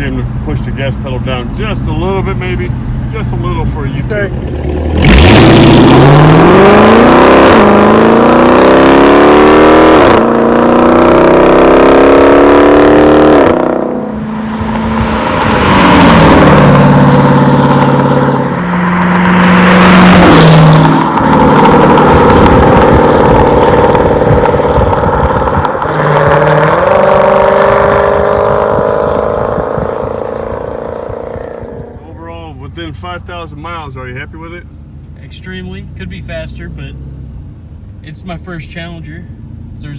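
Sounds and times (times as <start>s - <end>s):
car engine accelerating and shifting: 0.0s - 39.9s.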